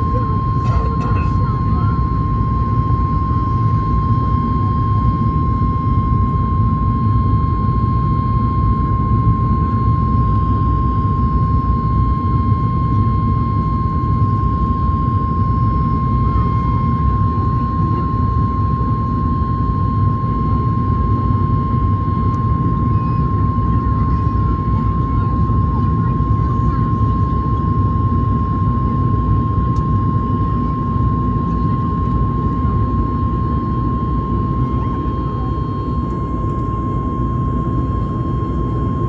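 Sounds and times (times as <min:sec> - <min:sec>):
low rumble of jet engines: 0:00.0 - 0:39.0.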